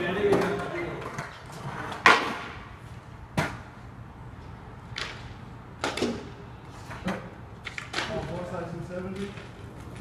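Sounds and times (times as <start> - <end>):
skateboard clacking on ground: 0.0 - 3.8, 4.8 - 10.0.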